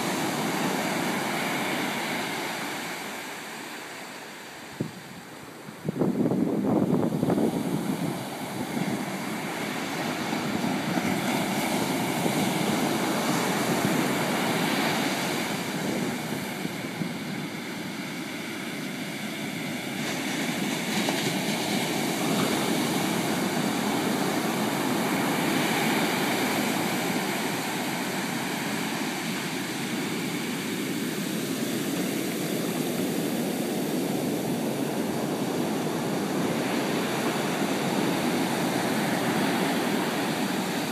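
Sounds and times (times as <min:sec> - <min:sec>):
surf waves breaking: 0:00.0 - 0:40.9.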